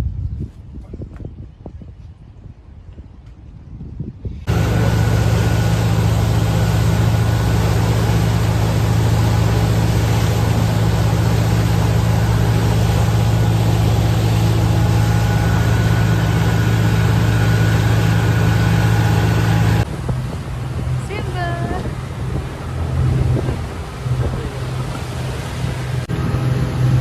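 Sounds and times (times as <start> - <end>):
boat engine humming: 4.5 - 27.0.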